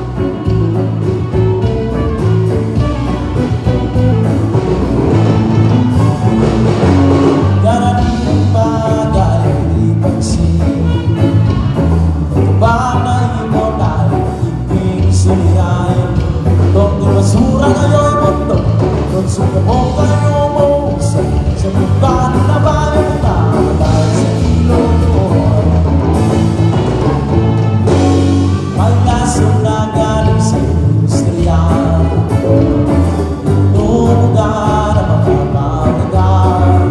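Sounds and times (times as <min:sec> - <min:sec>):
band playing: 0:00.0 - 0:36.9
lead singer singing: 0:00.0 - 0:36.9.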